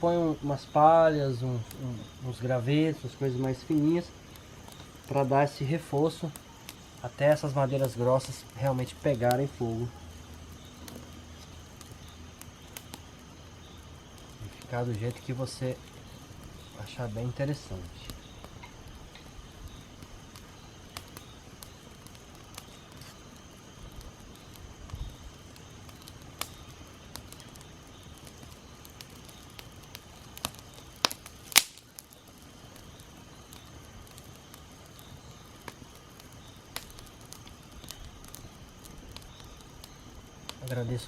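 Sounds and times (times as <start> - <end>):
campfire crackling: 0.0 - 41.0
sharp fire pops: 1.5 - 41.0.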